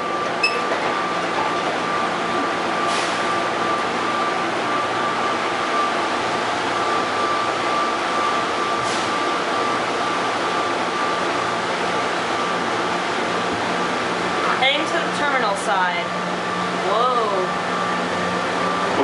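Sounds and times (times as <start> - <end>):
train rolling rumble and hiss: 0.0 - 19.0.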